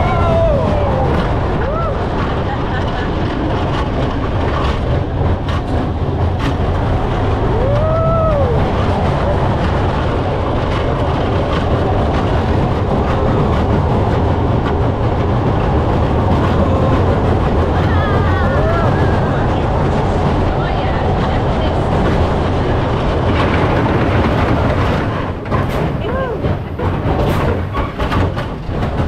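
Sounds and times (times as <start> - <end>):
vehicle rumbling and clattering: 0.0 - 29.0.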